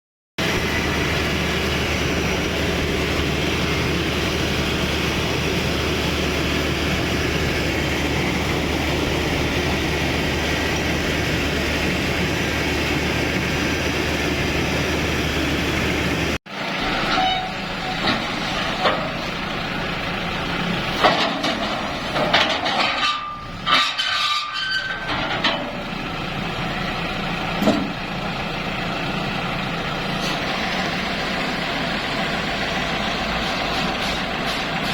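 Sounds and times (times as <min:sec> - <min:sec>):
combine harvester engine drone: 0:00.4 - 0:34.9.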